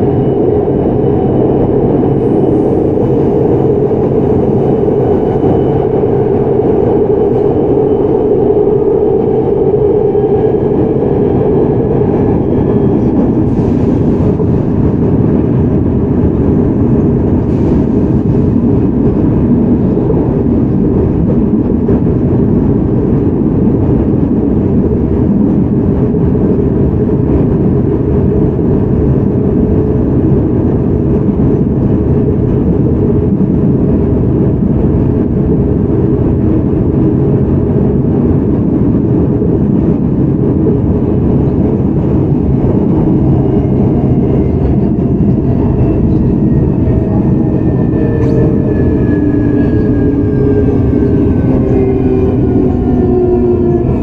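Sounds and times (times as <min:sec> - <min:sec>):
subway train wheels rumbling: 0:00.0 - 0:54.0.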